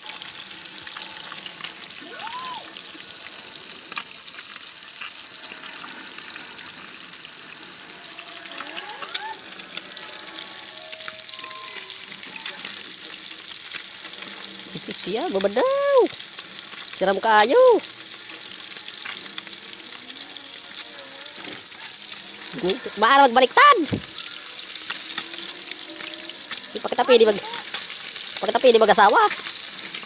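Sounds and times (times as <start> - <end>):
fish sizzling in hot oil: 0.0 - 30.0
oil crackling and popping: 0.0 - 30.0.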